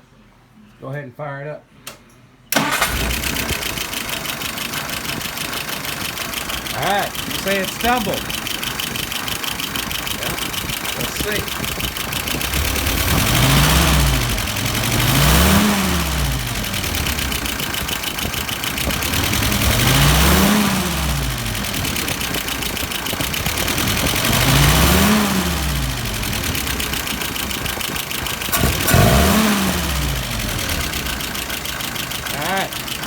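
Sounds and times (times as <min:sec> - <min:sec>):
engine idling and revving: 0:02.6 - 0:33.0.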